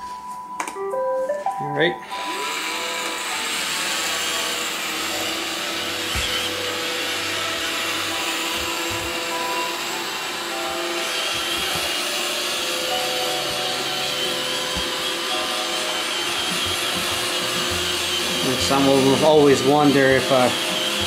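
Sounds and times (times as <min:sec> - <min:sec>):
robot vacuum whirring: 0:02.0 - 0:21.0.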